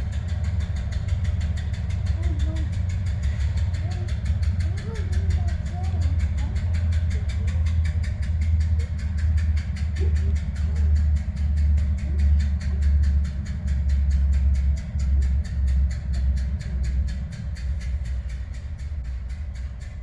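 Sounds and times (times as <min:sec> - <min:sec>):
fast regular engine knock: 0:00.0 - 0:20.0
locomotive engine droning: 0:00.0 - 0:20.0.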